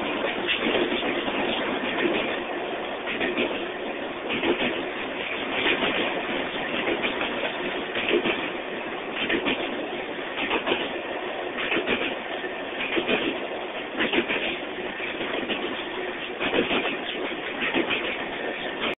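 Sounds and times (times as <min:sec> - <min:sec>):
wheel clacks over rail joints: 0:00.0 - 0:11.0, 0:11.6 - 0:18.9
train cars rolling on rails: 0:00.0 - 0:18.9.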